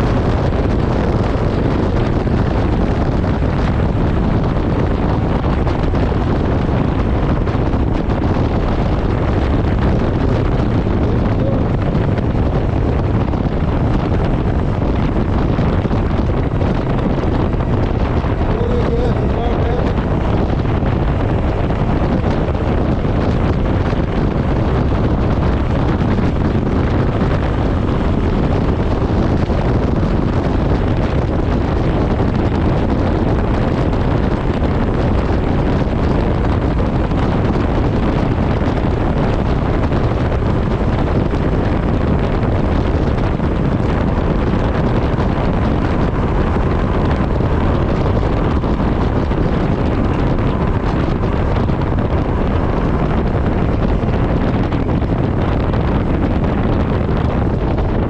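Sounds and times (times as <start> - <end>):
road noise: 0.0 - 58.0
wind rush over microphone: 0.0 - 58.0.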